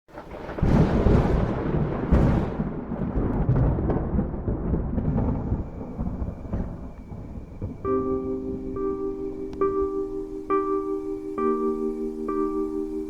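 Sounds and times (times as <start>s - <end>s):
thunder rumbling: 0.1s - 13.0s.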